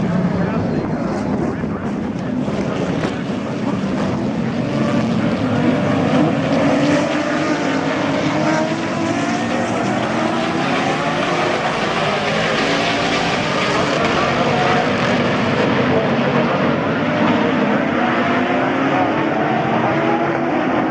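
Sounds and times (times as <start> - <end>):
race cars at full throttle: 0.0 - 20.9.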